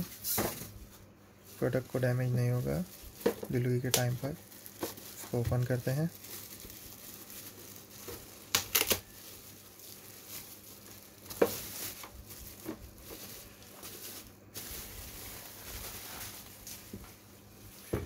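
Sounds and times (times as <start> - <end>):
bubble wrap crackles: 0.0 - 18.0
bubble wrap crinkling: 0.0 - 18.0.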